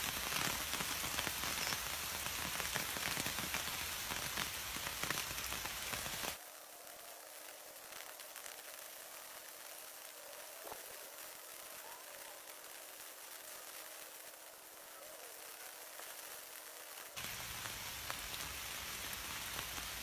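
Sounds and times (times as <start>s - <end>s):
dense crackling hiss: 0.0s - 20.0s
quiet hiss: 0.0s - 20.0s.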